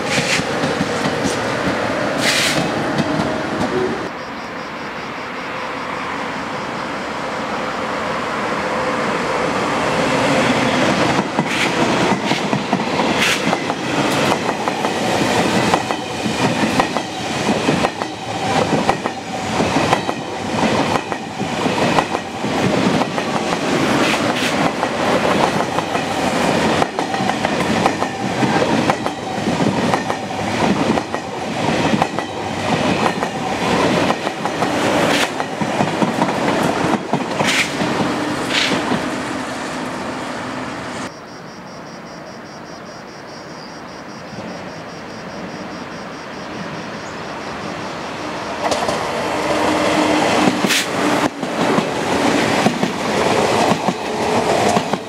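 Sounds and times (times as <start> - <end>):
high-speed train passing: 0.0 - 42.6, 44.1 - 55.0.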